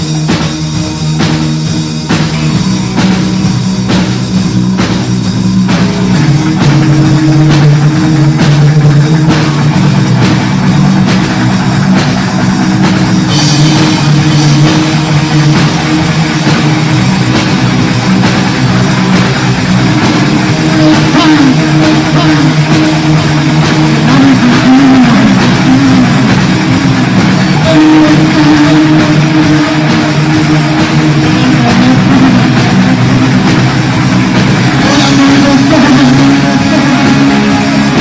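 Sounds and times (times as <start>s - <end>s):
drum hits: 0.0s - 38.0s
punk rock band playing: 0.0s - 38.0s.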